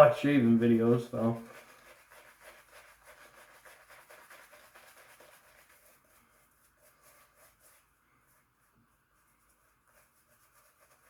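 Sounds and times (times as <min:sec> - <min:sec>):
shaving brush scratchy brushing: 0:00.0 - 0:11.0.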